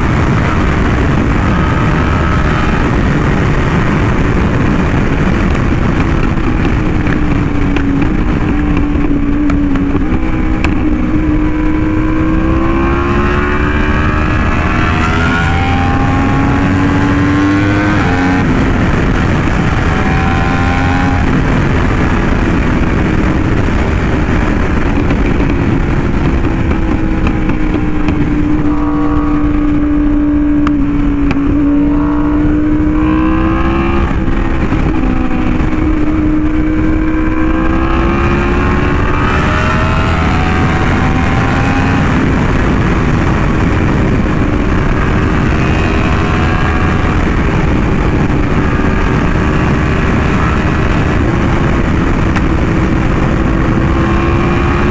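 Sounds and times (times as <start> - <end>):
motorcycle engine at high revs: 0.0 - 54.9
wind rushing: 0.0 - 54.9.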